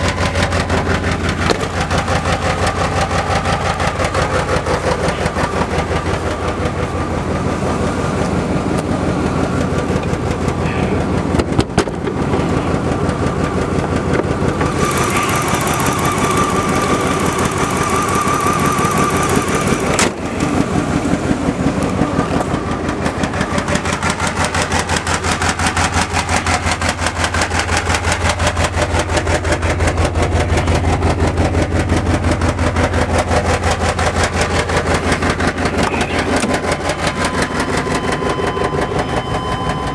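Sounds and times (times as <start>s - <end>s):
engine knocks: 0.0s - 39.9s
engine running with loud exhaust: 0.0s - 39.9s.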